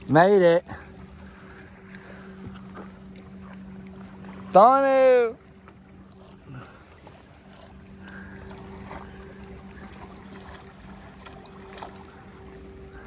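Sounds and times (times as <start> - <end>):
faint steady hum: 0.0 - 13.0
paddle dipping in water: 0.0 - 13.0
small water splashes: 0.0 - 13.0
water lapping against hull: 0.0 - 13.0.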